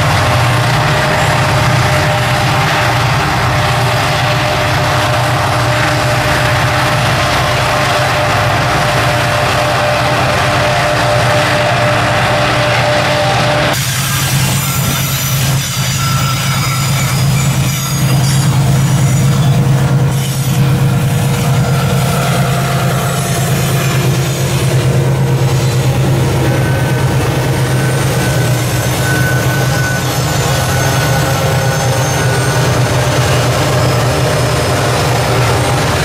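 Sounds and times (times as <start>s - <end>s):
diesel locomotives passing: 0.0s - 36.0s
wagons rumbling on rails: 0.0s - 36.0s
wheel squeal: 0.0s - 36.0s.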